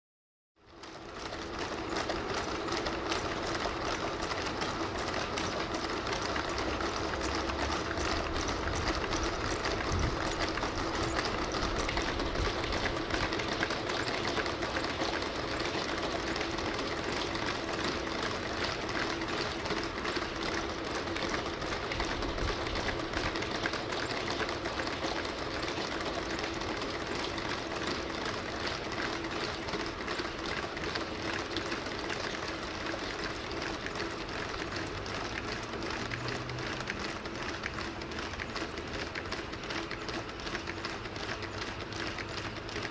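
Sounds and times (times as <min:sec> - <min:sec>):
clatter of robot feet: 0:00.8 - 0:42.9.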